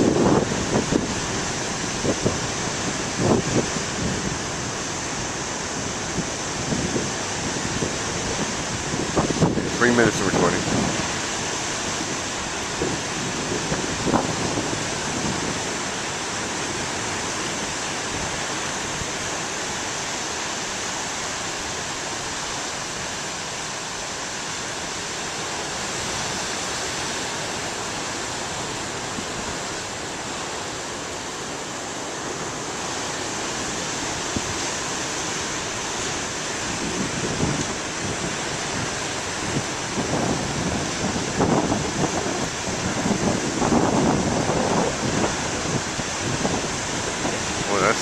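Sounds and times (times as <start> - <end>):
ocean waves breaking: 0.0 - 48.0.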